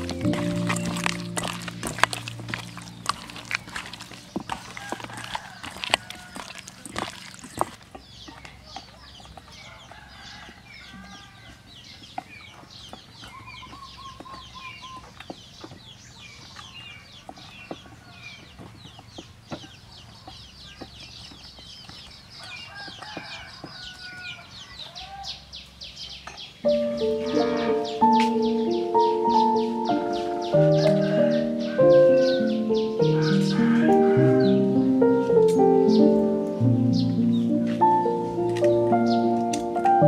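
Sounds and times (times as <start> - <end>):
chickens clucking: 0.0 - 24.9, 26.7 - 40.0
birds chirping: 0.0 - 40.0.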